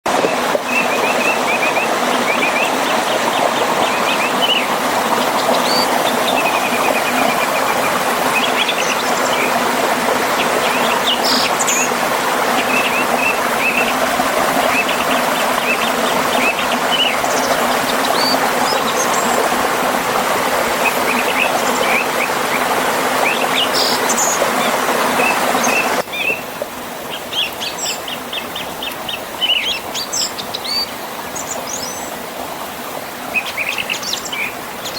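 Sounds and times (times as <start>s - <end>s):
river and waterfall rushing: 0.1s - 34.9s
songbirds chirping and trilling: 0.3s - 19.6s, 20.7s - 32.2s, 33.3s - 34.9s.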